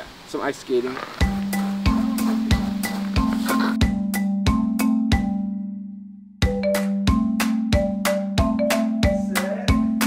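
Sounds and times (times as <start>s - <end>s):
music with steady beat: 1.2s - 10.0s.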